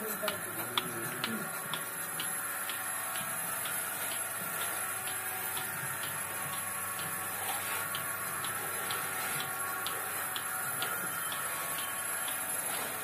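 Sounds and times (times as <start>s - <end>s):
milking machine pulsator ticking: 0.0s - 13.0s
vacuum pump humming: 0.0s - 13.0s.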